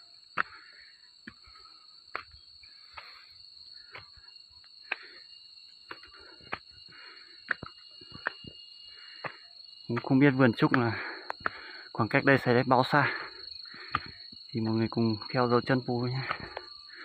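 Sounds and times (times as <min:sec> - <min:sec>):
insects droning: 0:00.0 - 0:17.0
footsteps on rocky dirt path: 0:00.3 - 0:14.5, 0:16.2 - 0:17.0.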